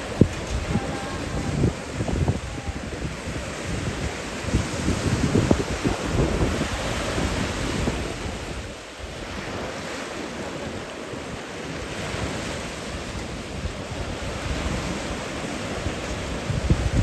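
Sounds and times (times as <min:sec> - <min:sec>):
small surf breaking on shore: 0:00.0 - 0:17.0
wind buffeting microphone: 0:00.0 - 0:17.0.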